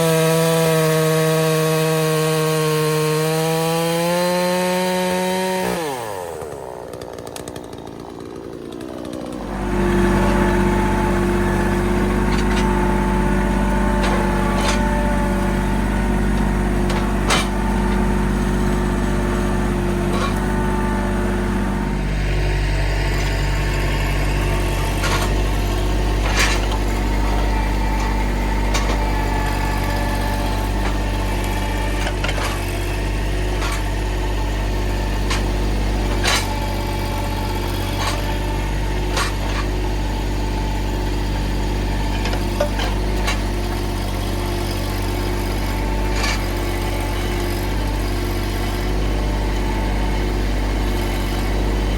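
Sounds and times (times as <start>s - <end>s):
tractor diesel engine running: 4.0s - 51.9s.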